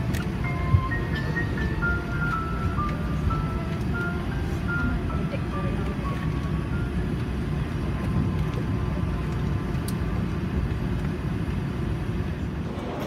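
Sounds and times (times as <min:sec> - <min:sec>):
low engine rumble in cabin: 0:00.0 - 0:13.0.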